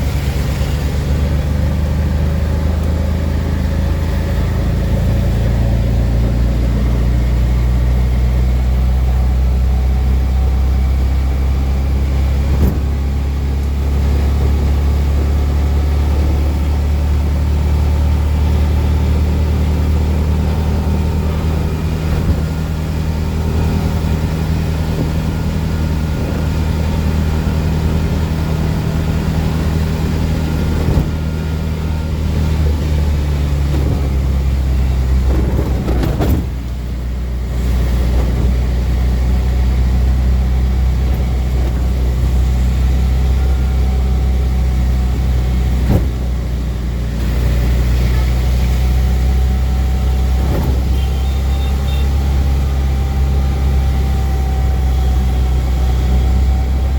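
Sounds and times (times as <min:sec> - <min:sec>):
rickshaw engine running: 0:00.0 - 0:56.9.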